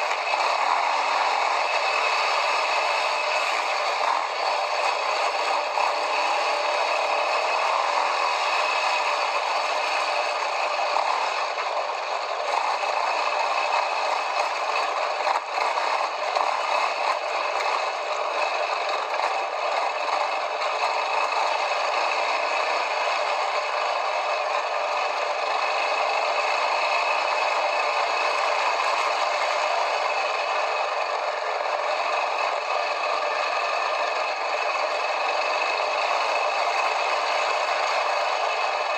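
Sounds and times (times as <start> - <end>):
quad bike rattling over rough ground: 0.0 - 38.9.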